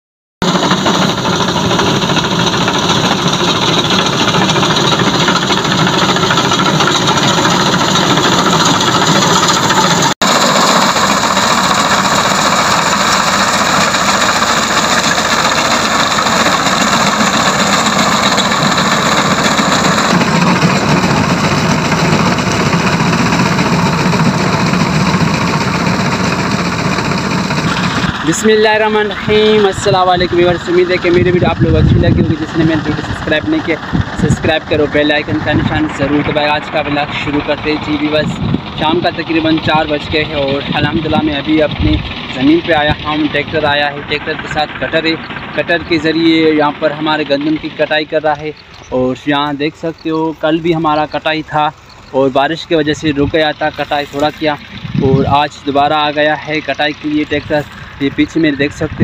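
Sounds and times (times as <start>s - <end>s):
tractor engine running under load: 0.4s - 59.0s.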